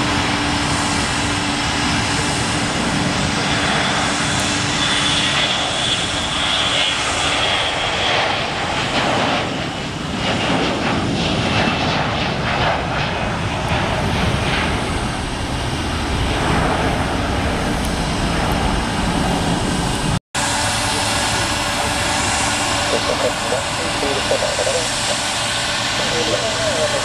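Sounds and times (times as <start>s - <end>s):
steady engine hum: 0.0s - 11.4s, 12.8s - 27.0s
jet engines roaring: 0.0s - 27.0s.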